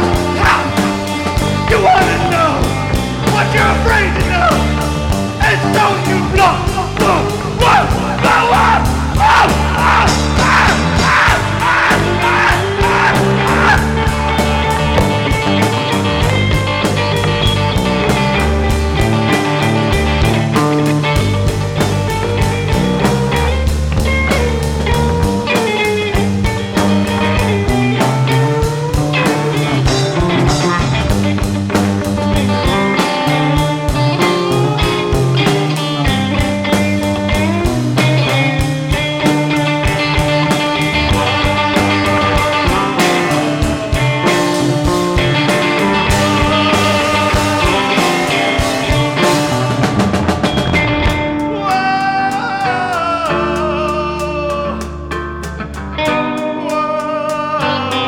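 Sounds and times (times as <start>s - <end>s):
steady drum beat: 0.0s - 52.3s
bass line: 0.0s - 58.0s
guitar: 0.0s - 58.0s.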